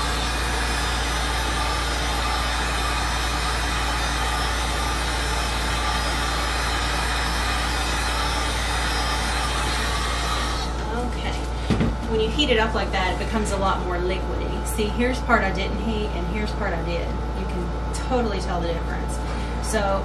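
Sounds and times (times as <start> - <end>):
heat gun running: 0.0 - 20.0.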